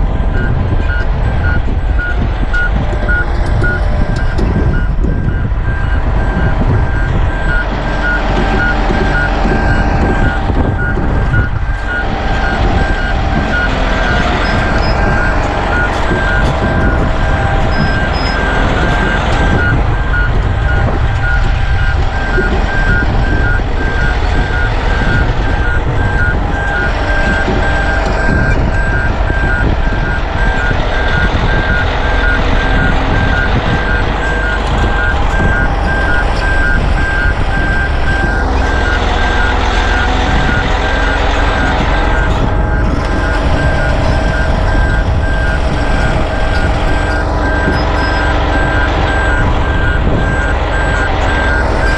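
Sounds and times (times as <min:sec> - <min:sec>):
heavy diesel machinery running: 0:00.0 - 0:51.9
backup alarm beeping: 0:00.3 - 0:51.9.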